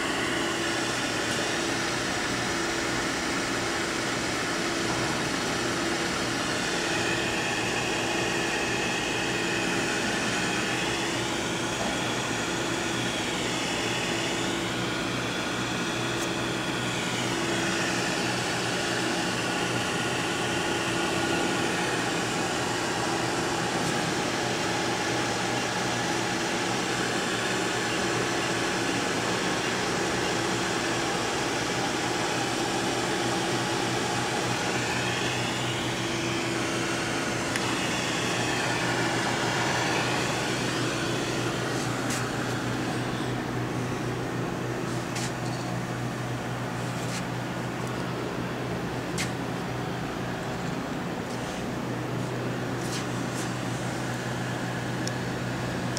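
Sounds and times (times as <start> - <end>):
cooling fan running: 0.0 - 55.9
faint rising and falling whine: 0.0 - 55.9
machine whirring hum: 0.0 - 55.9.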